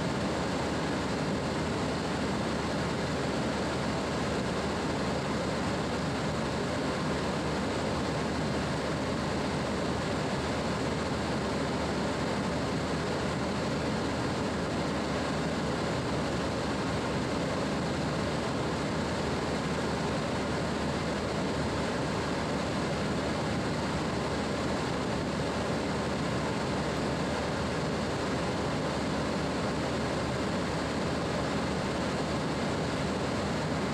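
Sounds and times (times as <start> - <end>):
rushing aircraft cabin noise: 0.0 - 33.9.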